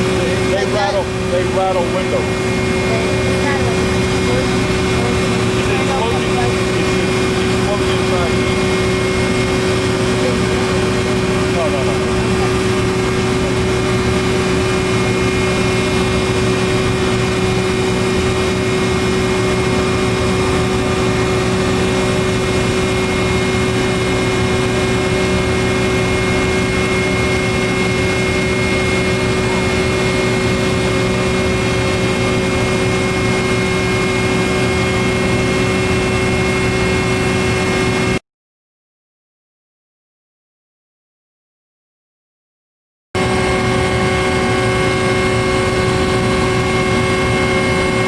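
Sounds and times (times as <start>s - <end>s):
generator machinery drone: 0.0s - 38.2s, 43.2s - 48.0s
high whine: 0.0s - 38.2s, 43.2s - 48.0s.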